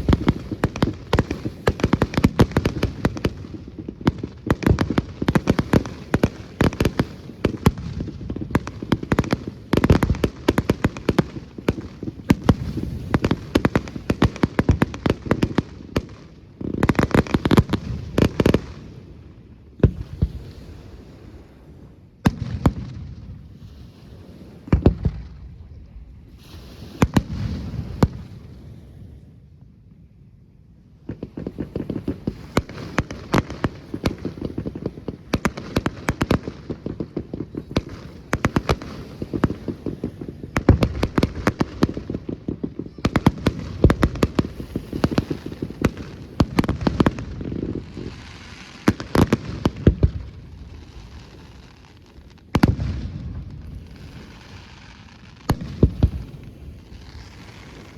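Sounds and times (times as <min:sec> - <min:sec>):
rapid crackling firework bangs: 0:00.0 - 0:19.1, 0:26.4 - 0:28.6, 0:31.1 - 0:57.9.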